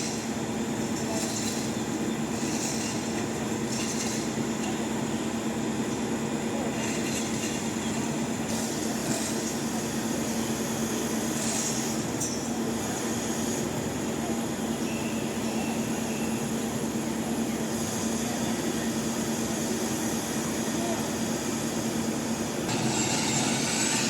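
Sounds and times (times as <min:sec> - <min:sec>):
construction site noise: 0:00.0 - 0:24.0
heavy machinery engine humming: 0:00.0 - 0:24.0.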